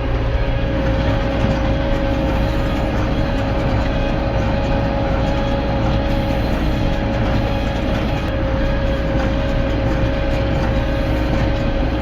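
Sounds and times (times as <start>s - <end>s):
tractor engine running under load: 0.0s - 12.0s.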